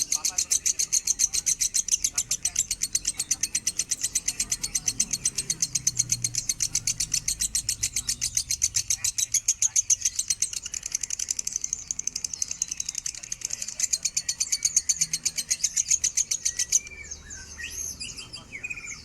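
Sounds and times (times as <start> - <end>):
lovebird chattering: 0.0 - 19.0.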